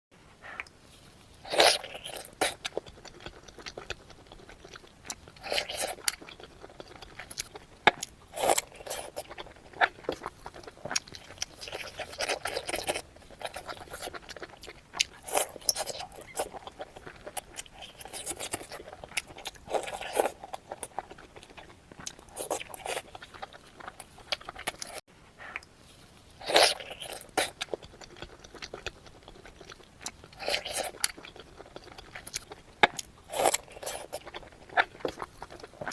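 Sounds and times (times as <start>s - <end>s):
person crunching and chewing food: 0.5s - 35.9s.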